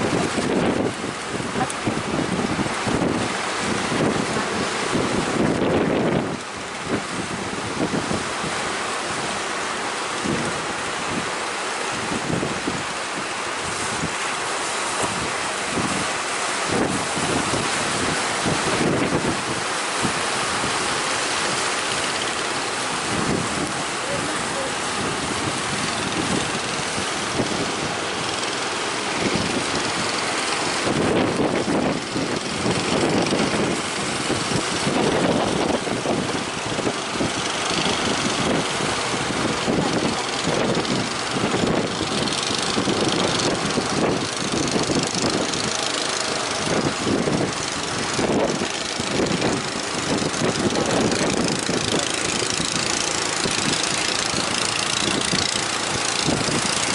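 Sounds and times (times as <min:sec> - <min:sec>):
boat engine thudding: 0:00.0 - 0:56.9
rough sea waves: 0:00.0 - 0:56.9
wind buffeting microphone: 0:00.0 - 0:56.9.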